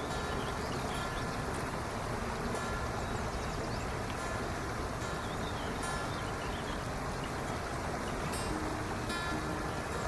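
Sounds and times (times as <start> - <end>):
acoustic guitar music: 0.0 - 10.0
waterfall rushing: 0.0 - 10.0.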